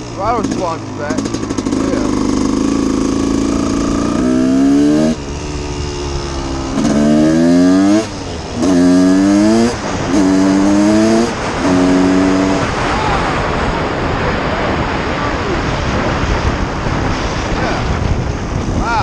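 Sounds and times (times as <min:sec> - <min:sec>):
two-stroke engine revving: 0:00.0 - 0:18.5.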